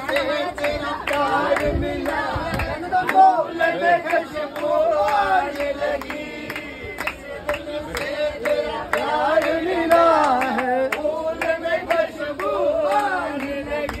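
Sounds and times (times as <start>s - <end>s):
hand claps: 0.0s - 3.4s, 4.0s - 14.0s
group singing devotional song: 0.0s - 14.0s.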